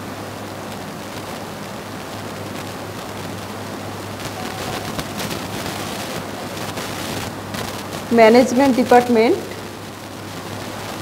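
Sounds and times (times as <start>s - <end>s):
constant low hum: 0.0s - 11.0s
steady hiss: 0.0s - 11.0s.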